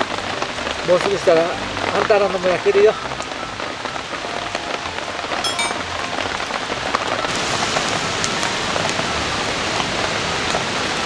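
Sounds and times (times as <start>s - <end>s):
steady rain pattering: 0.0s - 11.0s.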